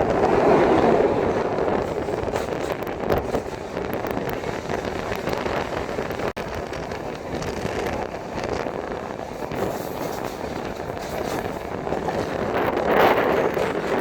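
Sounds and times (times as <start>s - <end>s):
train rumble and air rush: 0.0s - 14.0s.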